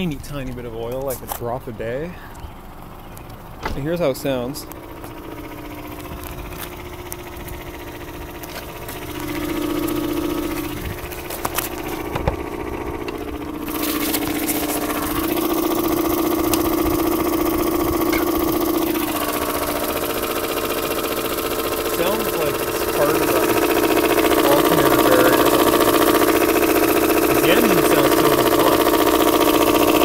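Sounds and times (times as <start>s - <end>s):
car engine idling hum: 0.0s - 30.0s.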